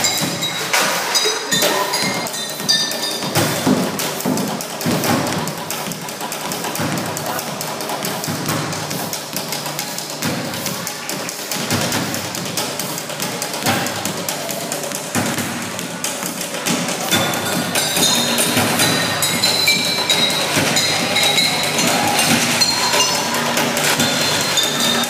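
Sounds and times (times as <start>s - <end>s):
basketball bouncing on stage floor: 1.8s - 9.5s, 10.2s - 25.0s.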